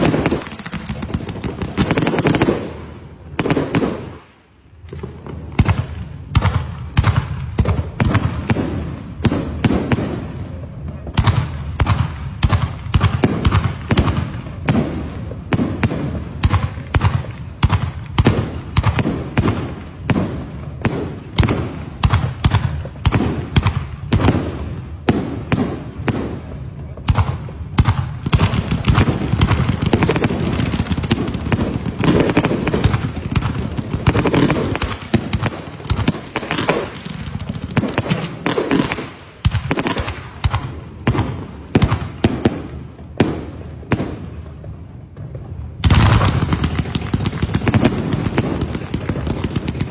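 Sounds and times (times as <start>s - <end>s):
firework launches and bangs: 0.0s - 10.3s, 11.2s - 49.9s.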